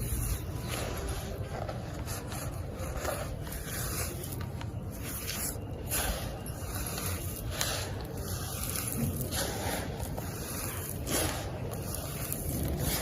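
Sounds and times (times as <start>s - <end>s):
gritty crunching and scraping: 0.0s - 13.0s.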